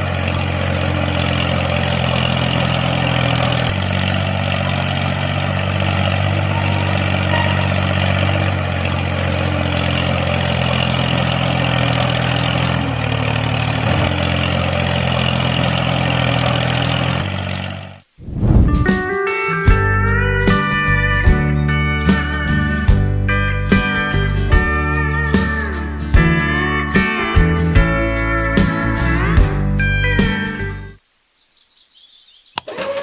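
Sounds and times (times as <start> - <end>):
engine humming: 0.0 - 31.1.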